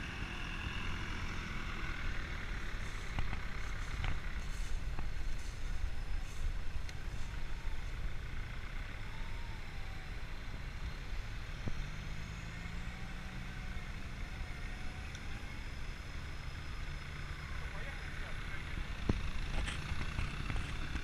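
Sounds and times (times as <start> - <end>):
low engine tone: 0.0 - 21.0
vehicle engine low rumble: 0.0 - 21.0.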